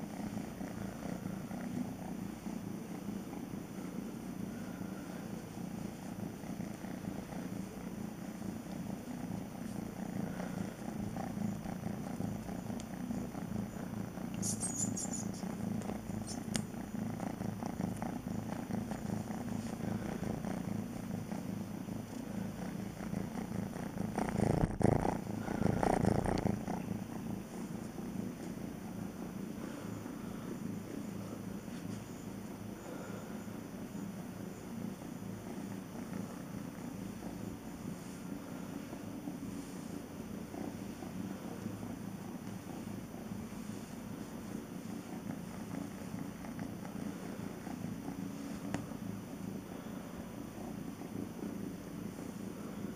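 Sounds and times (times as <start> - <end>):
kitten purring: 0.0 - 52.9.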